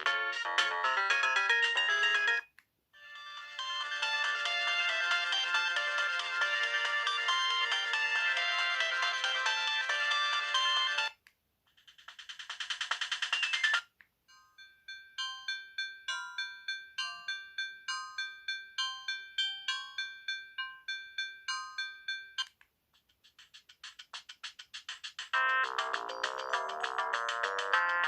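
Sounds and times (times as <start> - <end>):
mobile phone ringtone melodies: 0.0 - 11.2, 13.2 - 22.5, 25.4 - 28.0.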